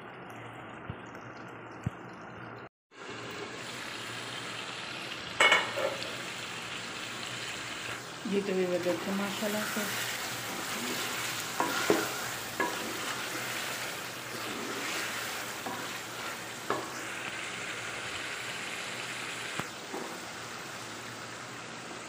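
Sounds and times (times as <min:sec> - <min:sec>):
meat and potatoes sizzling in oil: 0:02.9 - 0:22.0.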